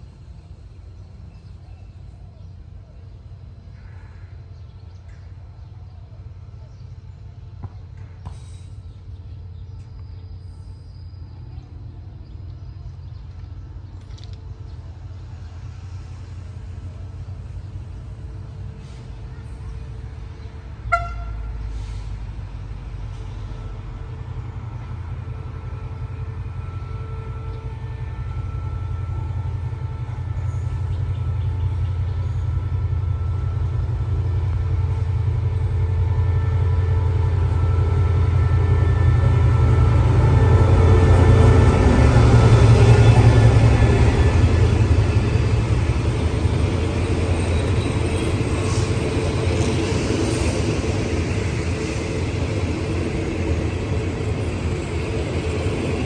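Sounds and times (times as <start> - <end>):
locomotive engine drone: 0.0 - 56.0
passenger coaches rolling past: 0.0 - 56.0.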